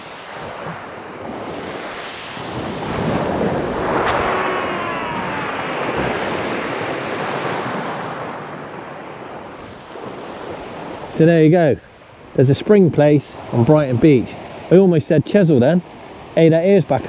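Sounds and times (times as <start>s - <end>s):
wind buffeting microphone: 0.0s - 14.7s
waves on shingle beach: 0.0s - 17.0s.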